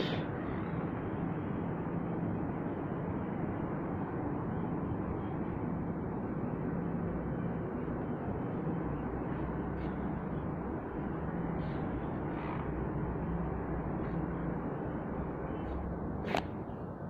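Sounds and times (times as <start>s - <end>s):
city rumble and hiss: 0.0s - 17.0s
faint steady hum: 0.0s - 17.0s.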